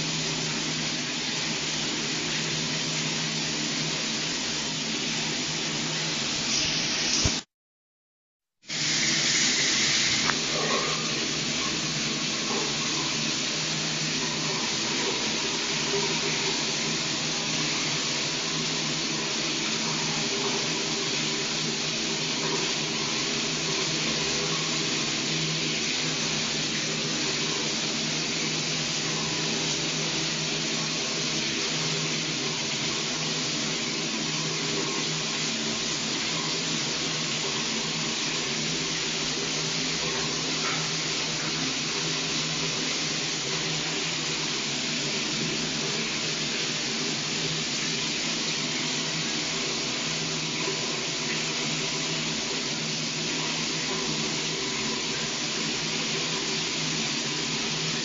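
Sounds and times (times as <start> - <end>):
shower water spraying: 0.0 - 7.5, 8.6 - 58.0.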